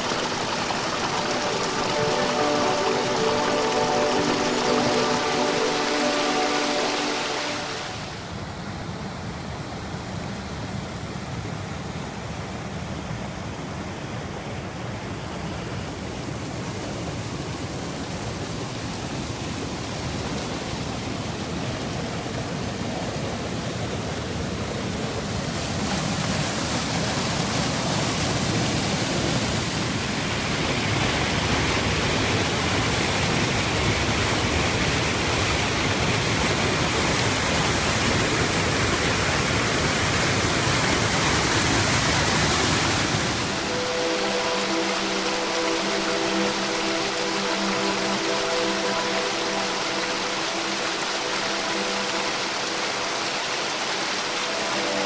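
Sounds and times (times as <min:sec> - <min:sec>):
water rushing between boulders: 0:00.0 - 0:55.0.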